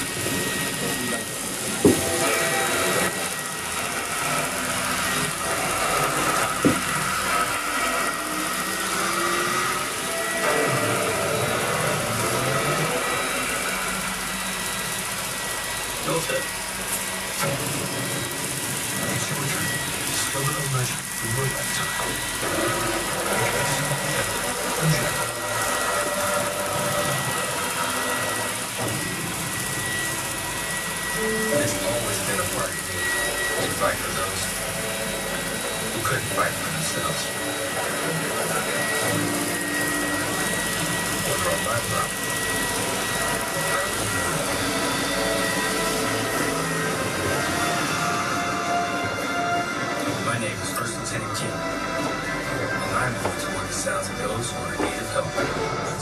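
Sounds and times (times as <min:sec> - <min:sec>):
electric hair clippers buzzing: 0:00.0 - 0:56.0.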